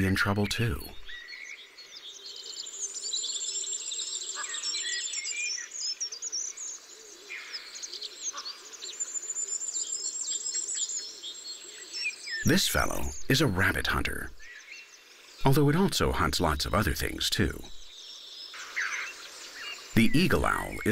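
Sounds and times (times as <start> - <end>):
songbirds chirping: 0.0 - 20.9.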